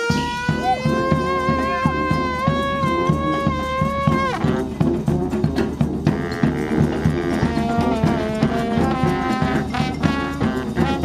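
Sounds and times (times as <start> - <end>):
bass drum beat: 0.0 - 11.0
brass band playing: 0.0 - 11.0.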